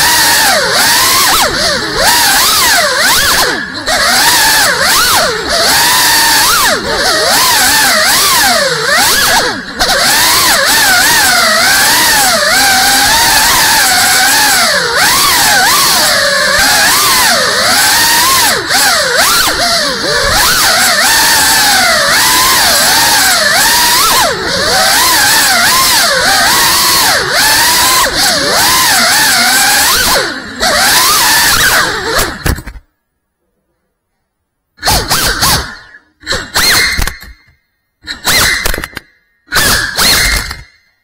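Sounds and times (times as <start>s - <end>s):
quadcopter motors whining: 0.0s - 32.8s, 34.8s - 40.7s.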